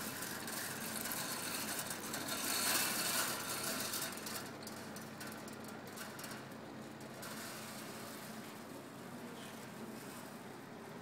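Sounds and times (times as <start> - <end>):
coffee beans rattling in roaster drum: 0.0 - 10.9.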